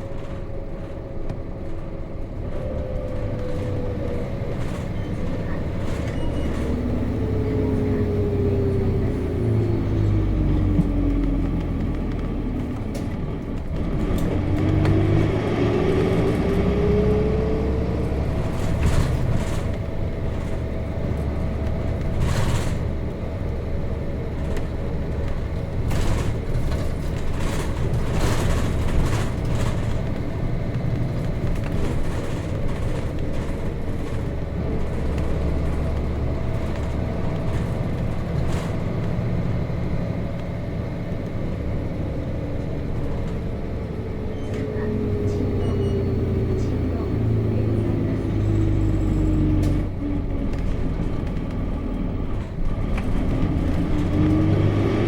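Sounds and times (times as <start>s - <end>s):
bus body rattles: 0.0s - 55.0s
bus diesel engine: 0.0s - 55.0s.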